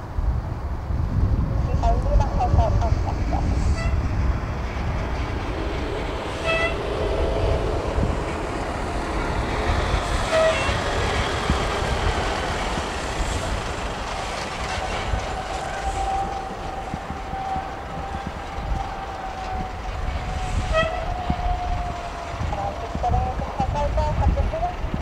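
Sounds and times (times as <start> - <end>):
wind rumble on microphone: 0.0 - 25.0
turboprop engine running: 0.1 - 25.0.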